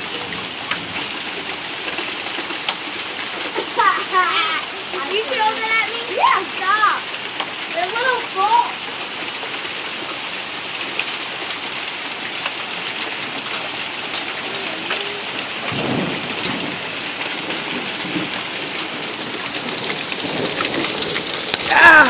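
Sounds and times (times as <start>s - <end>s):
hail and rain pelting down: 0.0s - 22.0s.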